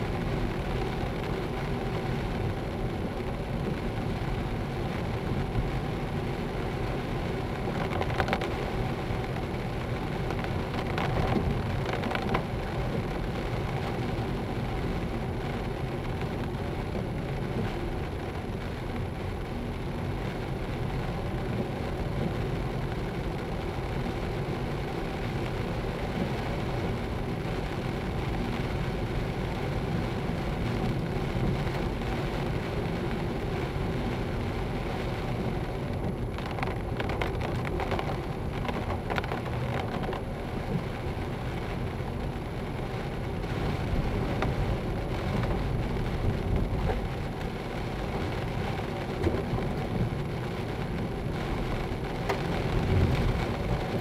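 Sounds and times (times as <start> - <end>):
car engine: 0.0 - 54.0
rain on windscreen: 0.0 - 54.0.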